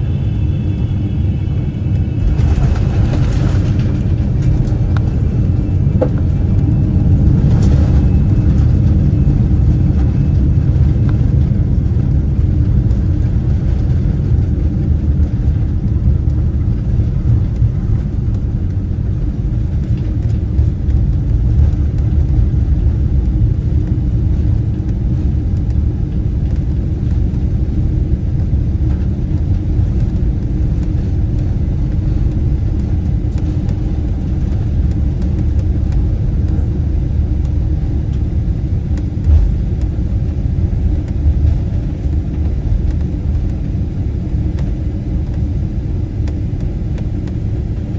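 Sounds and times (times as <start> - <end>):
airplane cabin low rumble: 0.0 - 47.9.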